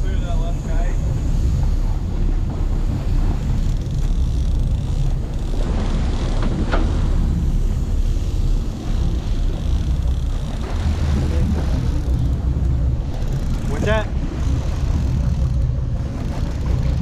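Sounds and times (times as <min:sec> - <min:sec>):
boat engines rumbling: 0:00.0 - 0:17.0
wind on microphone: 0:00.0 - 0:17.0.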